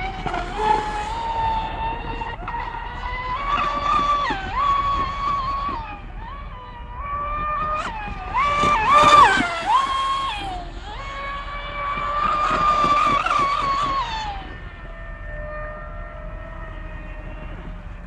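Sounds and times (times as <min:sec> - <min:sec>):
model boat motor whining: 0:00.0 - 0:18.0.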